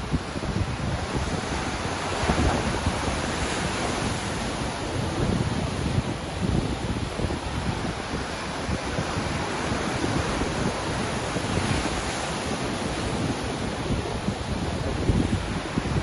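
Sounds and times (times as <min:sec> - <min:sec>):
waves breaking: 0:00.0 - 0:16.0
wind rumble on microphone: 0:00.0 - 0:16.0.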